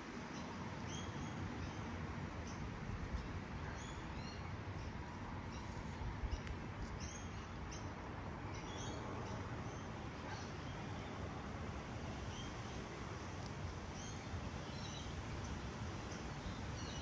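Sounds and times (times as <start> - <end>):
small birds chirping: 0.2 - 11.5, 12.2 - 17.0.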